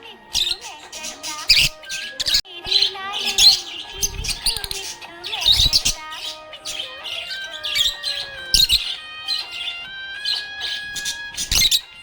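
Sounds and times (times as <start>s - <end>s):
background music melody: 0.0s - 12.0s
budgerigar chirping: 0.3s - 12.0s.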